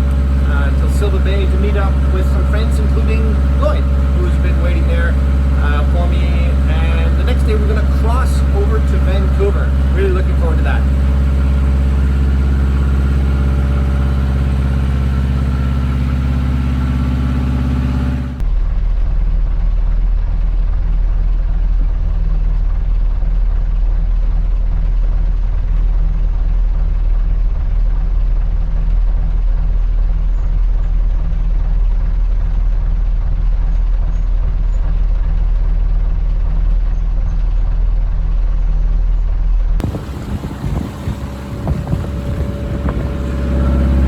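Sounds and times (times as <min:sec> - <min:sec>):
boat engine droning: 0:00.0 - 0:44.0.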